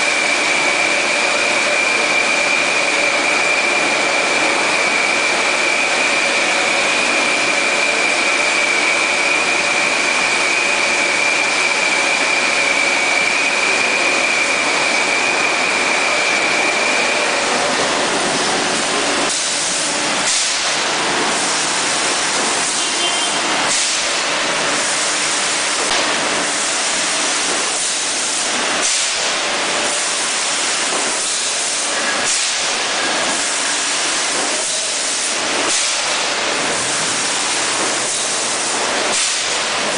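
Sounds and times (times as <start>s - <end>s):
high machine whine: 0.0s - 39.9s
machinery hissing: 0.0s - 39.9s.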